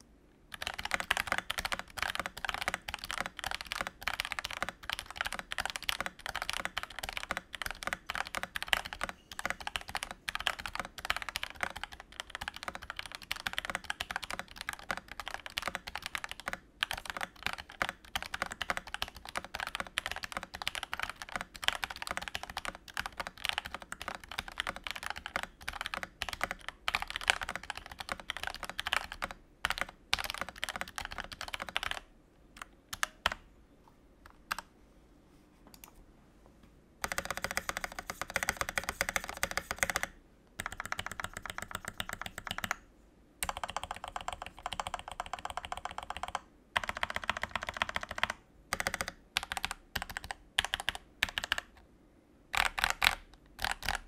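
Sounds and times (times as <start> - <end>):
fast typing on mechanical keyboard: 0.5 - 32.1, 37.0 - 42.8, 43.4 - 51.8, 52.5 - 54.0.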